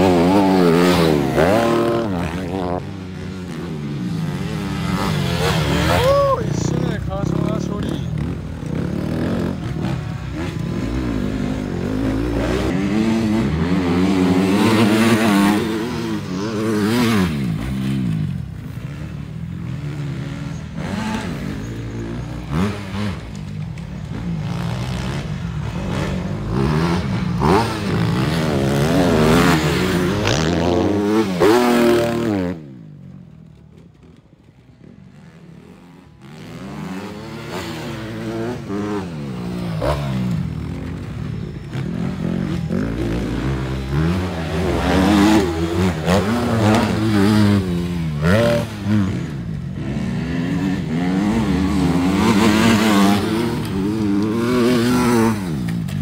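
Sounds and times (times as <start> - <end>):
motorcycle engines revving hard: 0.0 - 56.0.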